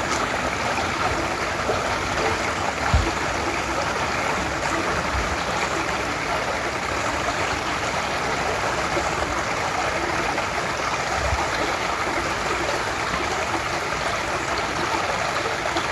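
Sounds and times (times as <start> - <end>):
stream splashing over stones: 0.0 - 15.9.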